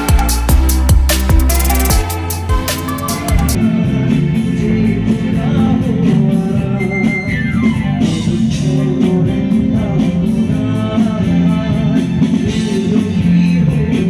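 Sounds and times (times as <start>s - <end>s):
live band with guitar: 0.0s - 14.0s.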